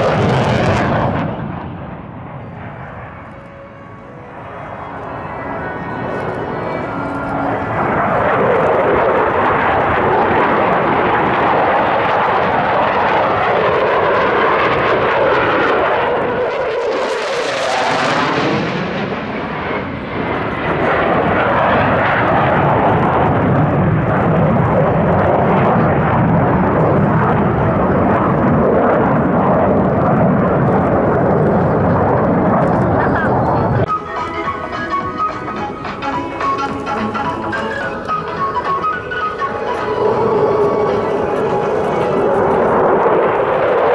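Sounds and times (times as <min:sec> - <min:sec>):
jet engine roaring: 0:00.0 - 0:43.9.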